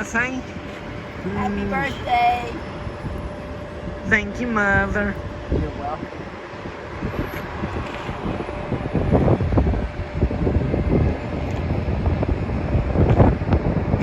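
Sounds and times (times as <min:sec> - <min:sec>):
airport rumble: 0:00.0 - 0:14.0
wind buffeting microphone: 0:00.0 - 0:14.0.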